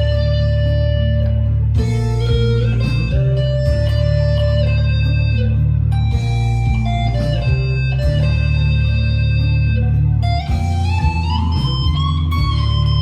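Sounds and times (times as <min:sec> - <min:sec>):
overdriven electric guitar: 0:00.0 - 0:13.0.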